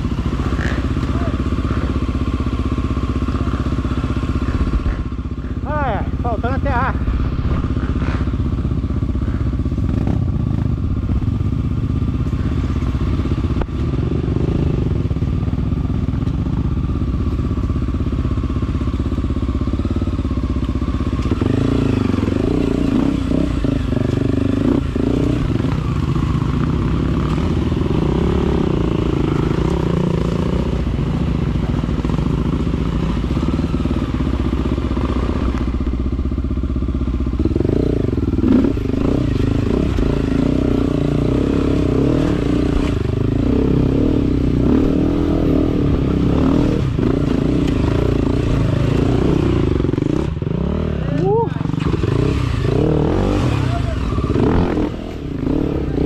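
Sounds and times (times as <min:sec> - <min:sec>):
dirt bike engine revving: 0:00.0 - 0:17.3, 0:18.3 - 0:56.0.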